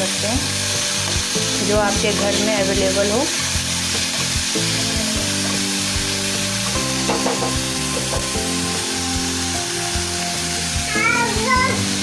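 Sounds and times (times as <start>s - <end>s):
background music: 0.0s - 12.0s
vegetables sizzling in oil: 0.0s - 12.0s.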